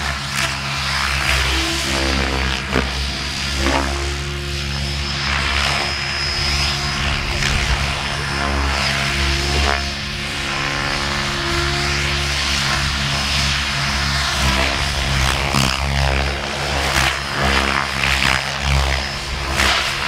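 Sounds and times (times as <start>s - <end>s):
motor and tail-rotor whine: 0.0s - 20.0s
rc helicopter rotor drone: 0.0s - 20.0s.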